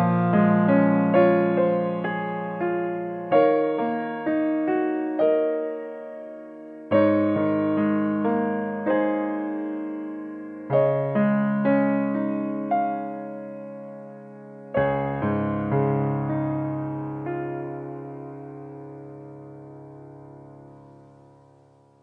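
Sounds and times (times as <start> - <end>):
slow electric piano piece: 0.0 - 22.0.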